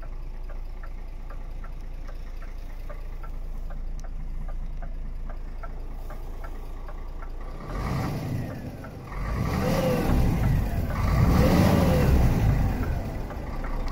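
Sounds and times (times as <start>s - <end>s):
hazard-light relay ticking: 0.0s - 11.6s, 12.3s - 13.9s
truck diesel engine revving: 0.0s - 13.9s.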